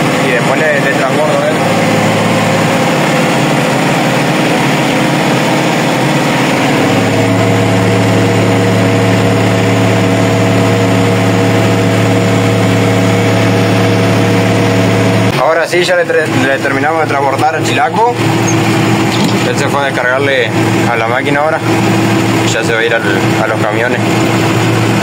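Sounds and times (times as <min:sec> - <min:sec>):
tractor engine running: 0:00.0 - 0:15.5, 0:16.3 - 0:25.0.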